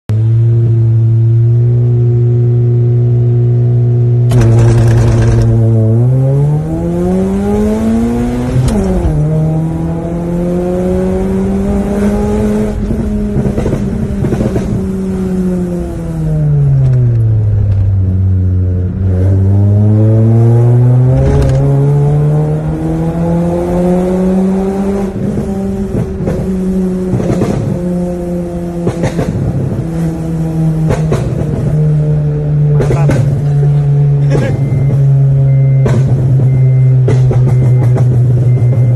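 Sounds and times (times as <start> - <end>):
car engine revving: 0.2 - 38.9.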